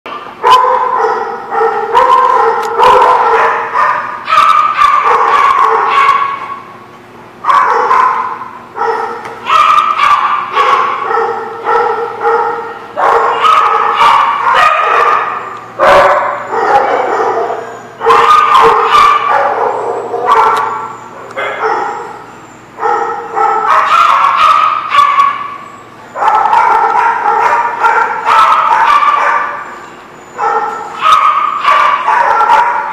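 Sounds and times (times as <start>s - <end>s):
dogs yipping and barking: 0.1s - 32.9s.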